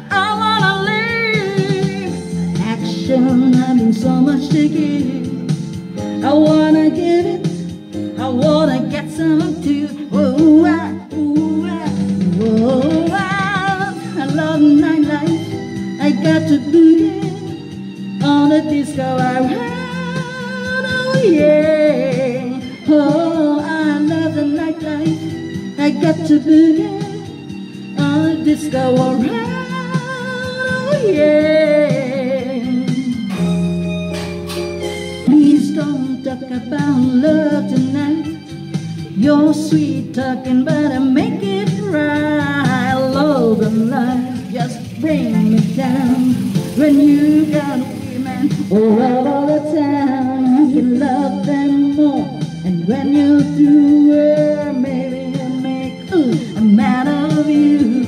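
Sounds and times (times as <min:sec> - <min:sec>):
woman singing with vibrato: 0:00.0 - 0:33.9, 0:35.2 - 0:58.0
backing music: 0:00.0 - 0:58.0.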